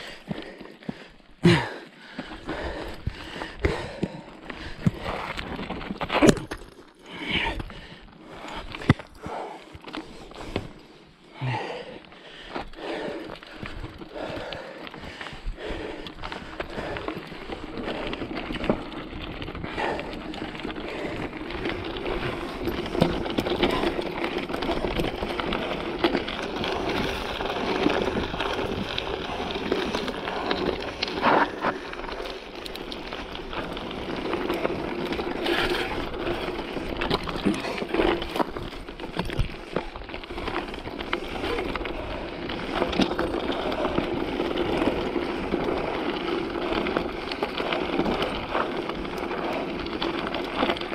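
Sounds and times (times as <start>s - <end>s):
bike rattling over bumps: 0.0s - 50.9s
bike tyres crunching on dirt: 0.0s - 50.9s.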